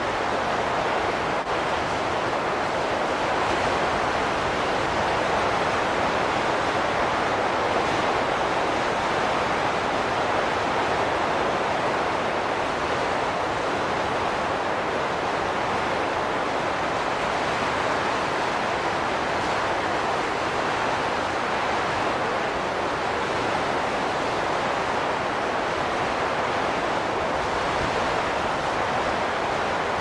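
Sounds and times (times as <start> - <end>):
wind blowing steadily: 0.0 - 30.0.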